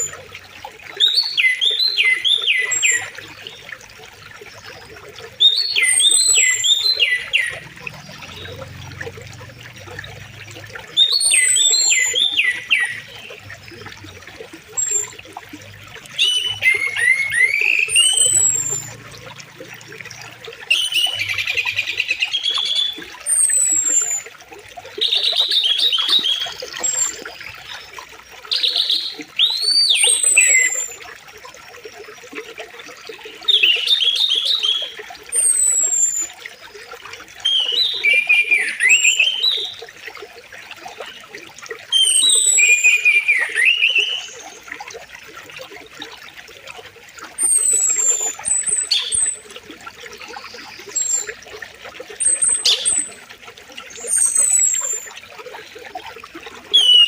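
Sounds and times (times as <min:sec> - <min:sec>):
songbirds singing: 0:00.0 - 0:31.1, 0:33.0 - 0:40.0, 0:40.8 - 0:44.9, 0:47.4 - 0:57.0.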